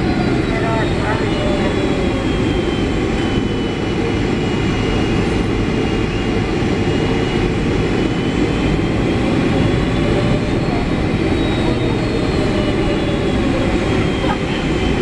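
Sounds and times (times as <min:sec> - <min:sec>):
faint high engine whine: 0:00.0 - 0:15.0
jet engine cabin rumble: 0:00.0 - 0:15.0.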